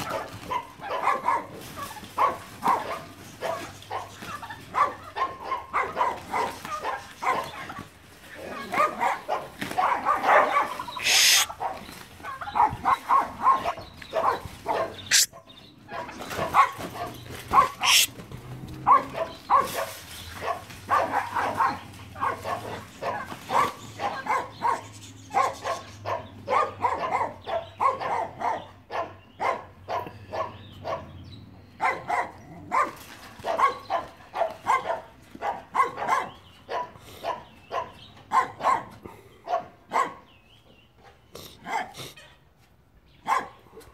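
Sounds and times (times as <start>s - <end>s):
dogs barking excitedly: 0.0s - 42.5s, 43.1s - 43.9s.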